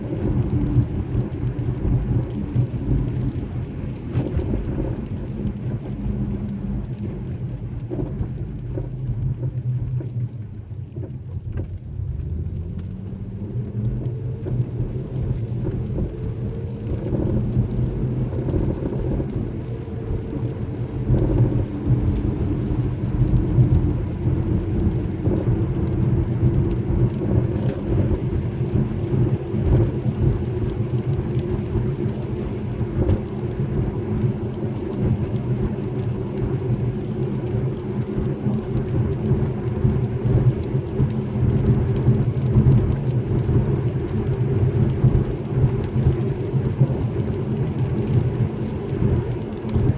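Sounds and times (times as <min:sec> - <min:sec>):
car engine droning hum: 0:00.0 - 0:49.9
tyre and road rumble: 0:00.0 - 0:49.9.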